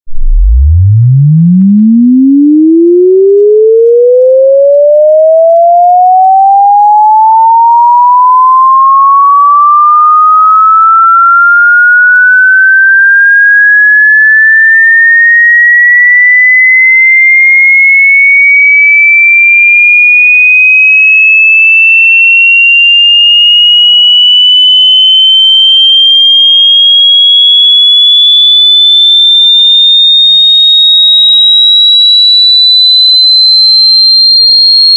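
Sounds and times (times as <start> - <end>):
sine tone sweeping upward: 0.1 - 34.9.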